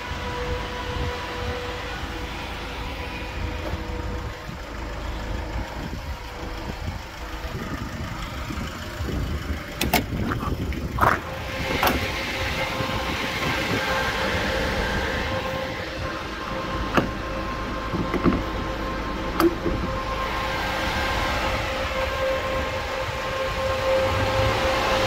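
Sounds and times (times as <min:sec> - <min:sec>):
truck diesel engine rumbling: 0:00.0 - 0:25.0.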